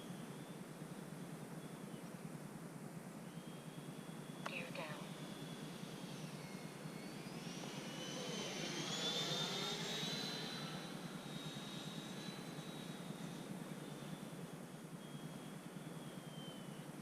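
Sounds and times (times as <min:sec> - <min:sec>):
model jet whine: 0:00.0 - 0:17.0.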